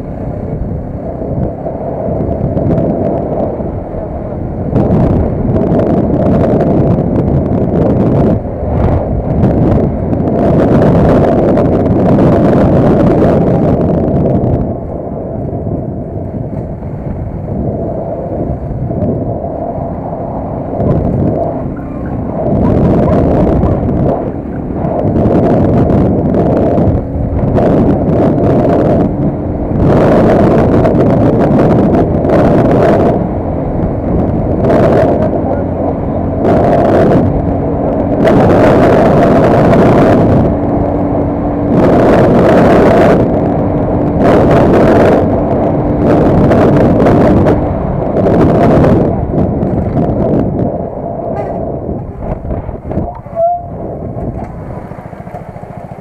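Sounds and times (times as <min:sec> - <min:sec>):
vehicle engine running: 0:00.0 - 0:56.0
wind buffeting microphone: 0:00.0 - 0:56.0.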